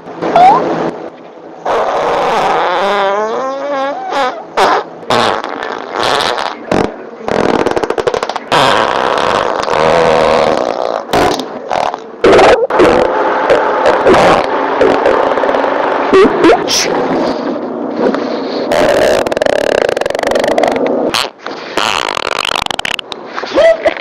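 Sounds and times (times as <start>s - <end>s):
person farting: 1.7s - 16.9s, 18.7s - 23.1s.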